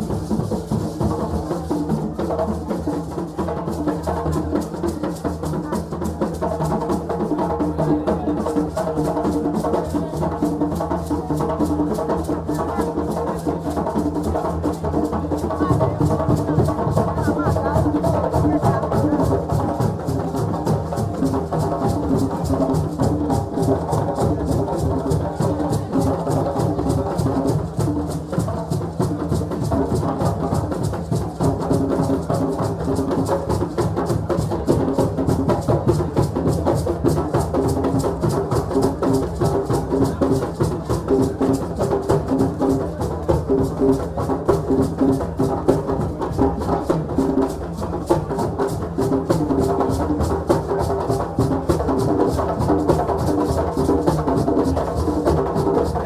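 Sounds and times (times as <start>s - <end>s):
fast percussion drumming: 0.0s - 56.0s.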